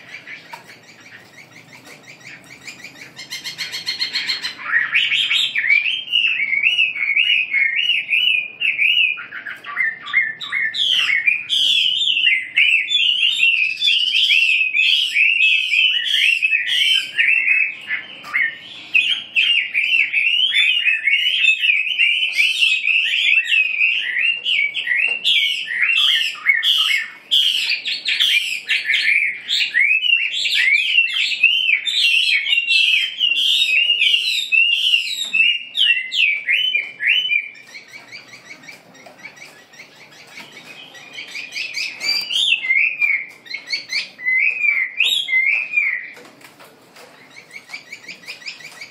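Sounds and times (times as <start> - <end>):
caged songbirds singing: 0.0 - 48.9.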